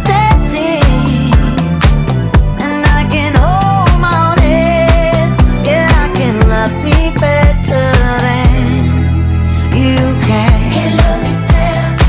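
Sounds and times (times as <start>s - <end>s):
pop dance music: 0.0s - 12.0s.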